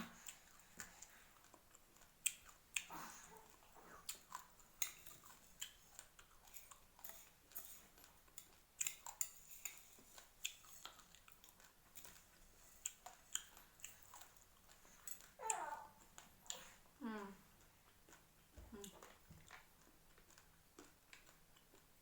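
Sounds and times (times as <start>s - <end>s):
rice grains being chewed: 0.0s - 22.0s.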